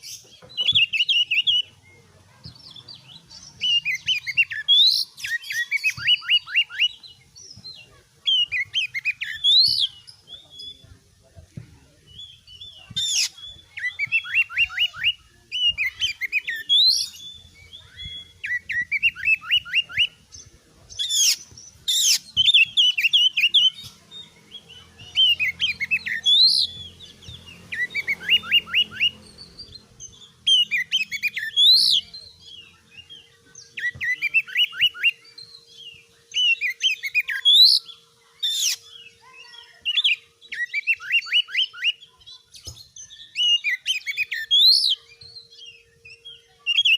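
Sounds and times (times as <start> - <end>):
songbird singing whistled phrases: 0.0 - 10.8, 12.1 - 46.9.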